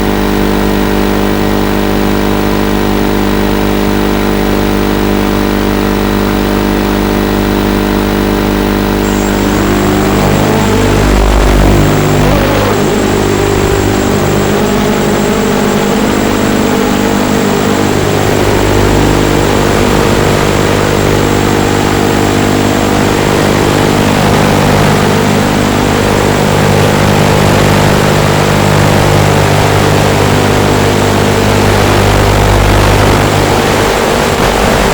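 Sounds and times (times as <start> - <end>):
drone motors humming: 4.1 - 34.9
thin high whine: 4.1 - 34.9.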